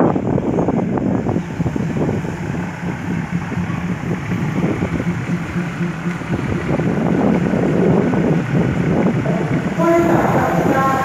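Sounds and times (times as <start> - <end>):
diesel train engine humming: 0.0 - 11.0
wind noise on microphone: 0.0 - 11.0.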